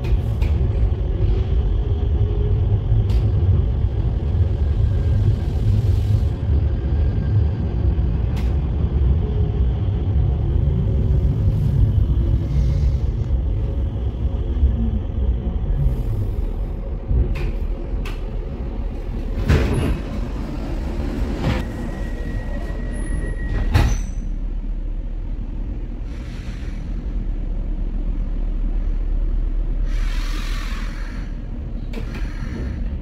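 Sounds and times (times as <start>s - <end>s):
train interior low rumble: 0.0s - 33.0s.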